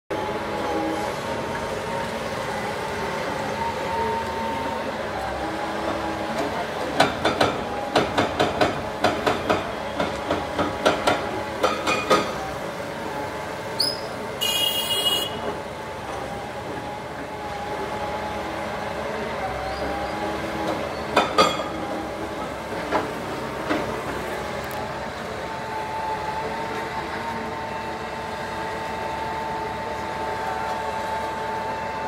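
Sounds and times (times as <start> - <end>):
excavator engine and hydraulics: 0.1 - 32.0.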